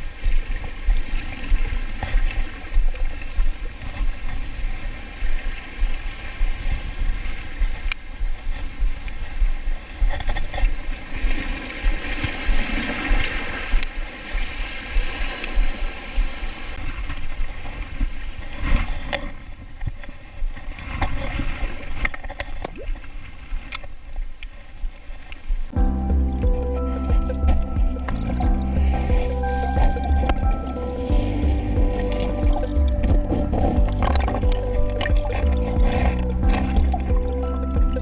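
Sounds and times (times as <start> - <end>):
sea water washing around rocks: 0.0 - 38.0
wind buffeting microphone: 0.0 - 38.0.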